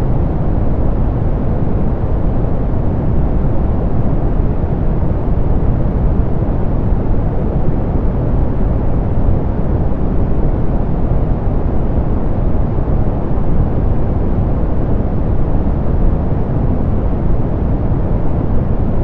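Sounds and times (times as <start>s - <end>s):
muffled pink noise hiss: 0.0s - 19.0s.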